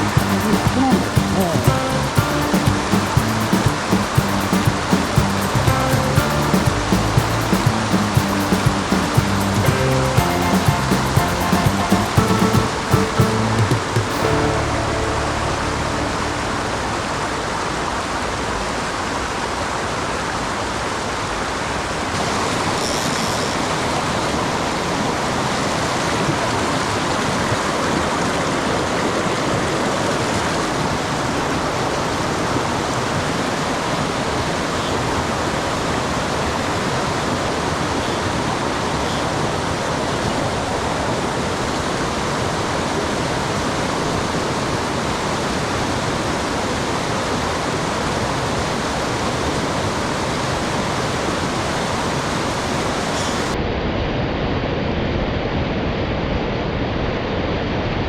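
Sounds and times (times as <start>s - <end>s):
mountain stream rushing: 0.0s - 53.6s.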